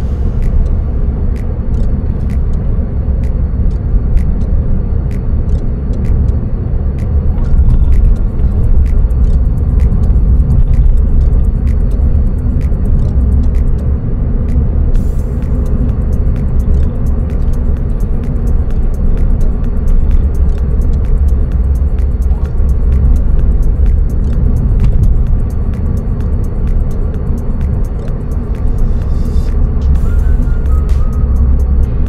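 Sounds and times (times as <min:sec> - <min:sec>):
engine and road noise in car: 0:00.0 - 0:32.0
faint music with ticking beat: 0:00.0 - 0:32.0.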